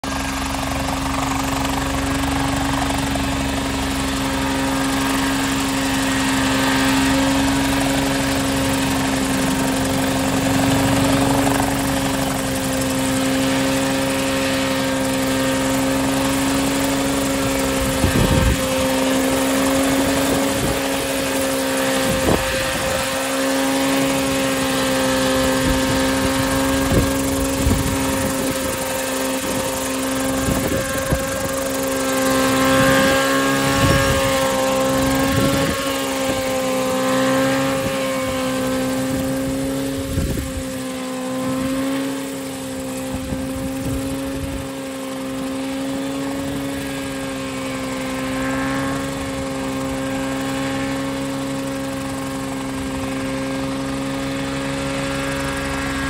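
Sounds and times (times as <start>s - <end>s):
helicopter engine and rotors hum: 0.0s - 56.0s.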